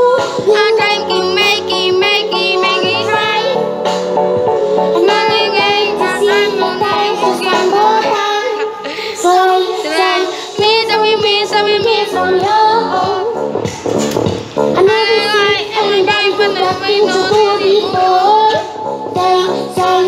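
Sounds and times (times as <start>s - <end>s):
boys singing a pop song: 0.0s - 20.0s.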